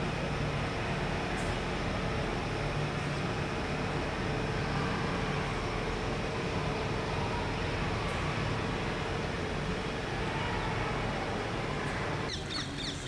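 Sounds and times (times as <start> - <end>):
distant city traffic: 0.0 - 13.0.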